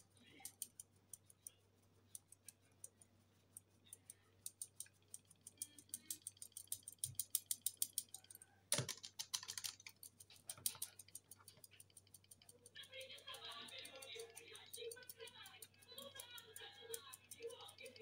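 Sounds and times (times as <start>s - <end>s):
metal sieve ticking: 0.0s - 18.0s.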